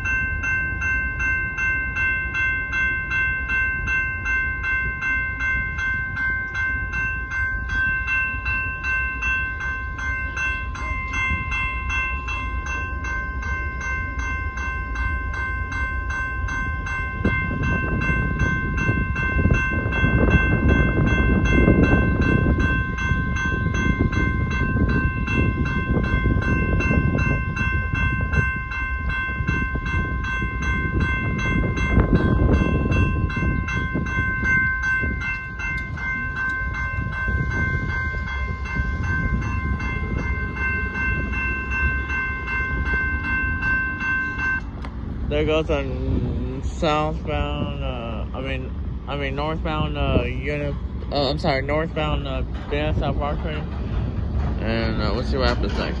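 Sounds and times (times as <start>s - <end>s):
freight train cars rumbling: 0.0s - 56.0s
railroad crossing bell ringing: 0.0s - 56.0s.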